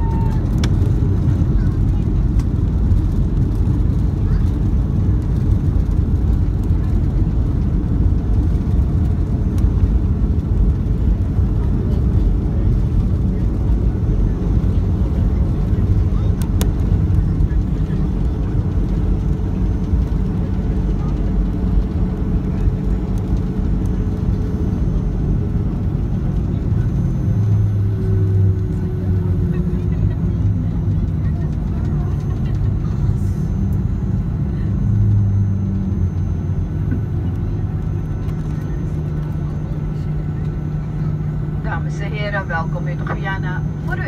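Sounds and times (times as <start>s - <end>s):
jet engines rumbling in cabin: 0.0s - 44.0s
low steady hum: 0.0s - 44.0s.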